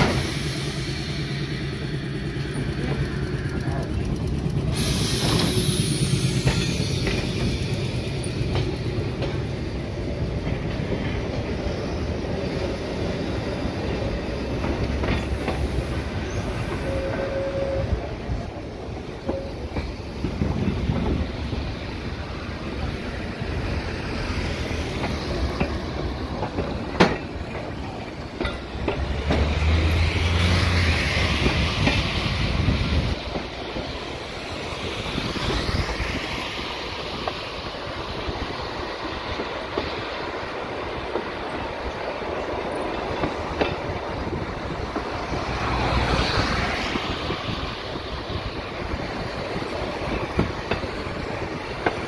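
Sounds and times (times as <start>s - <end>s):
tram wheels clicking on rails: 0.0s - 52.0s.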